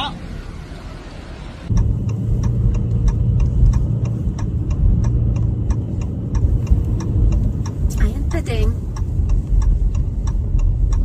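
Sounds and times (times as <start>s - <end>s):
car engine and tyres rumbling: 0.0s - 11.0s
turn signal ticking: 1.7s - 11.0s.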